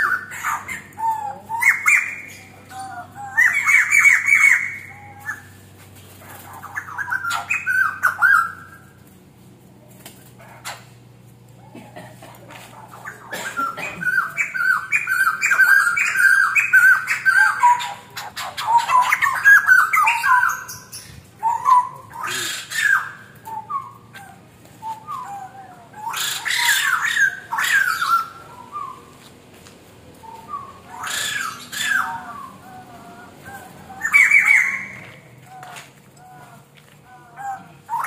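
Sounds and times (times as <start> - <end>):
bird calling repeated notes: 0.0 - 5.6, 6.5 - 8.9, 13.0 - 29.2, 30.2 - 38.0
harsh bird squawking: 0.0 - 5.6, 6.2 - 8.8, 12.7 - 29.1, 30.5 - 38.0.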